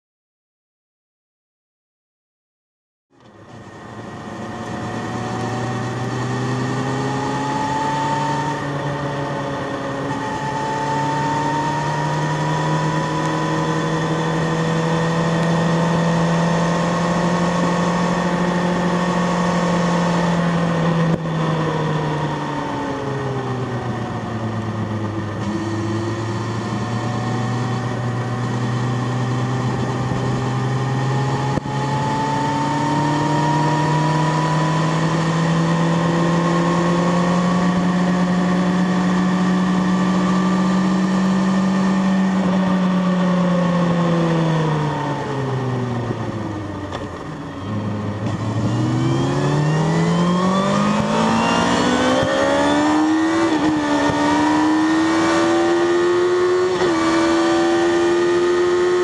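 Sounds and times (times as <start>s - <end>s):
motorcycle engine accelerating: 3.1s - 59.0s.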